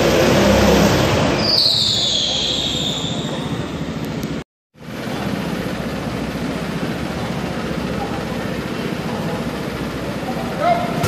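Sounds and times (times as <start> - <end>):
go-karts running: 0.0 - 11.0.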